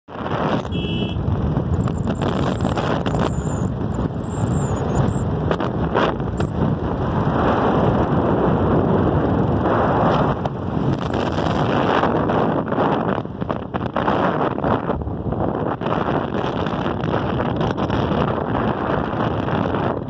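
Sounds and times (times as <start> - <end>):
wind and road noise: 0.0 - 20.0
wind buffeting microphone: 0.1 - 20.0.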